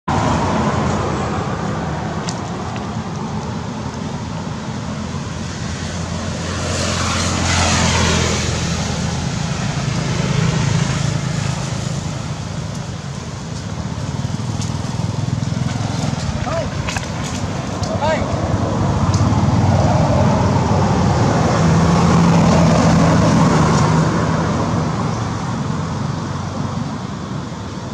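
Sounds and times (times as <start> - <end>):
road traffic: 0.0 - 27.9
vehicle passing close: 0.1 - 27.9.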